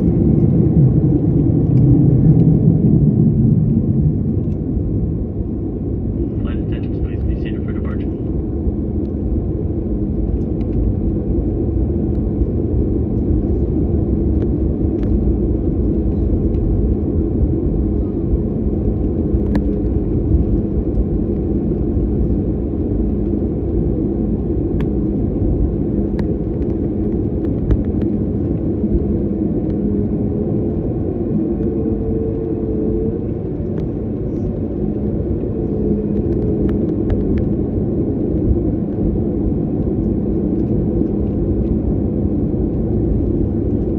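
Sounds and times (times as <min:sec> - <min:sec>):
jet airliner cabin rumble: 0:00.0 - 0:43.9.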